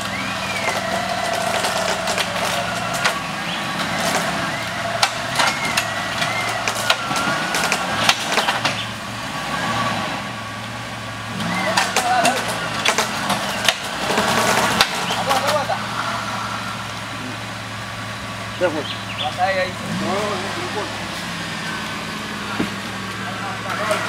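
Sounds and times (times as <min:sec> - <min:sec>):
engine idling: 0:00.0 - 0:24.0
winch whining: 0:00.0 - 0:24.0.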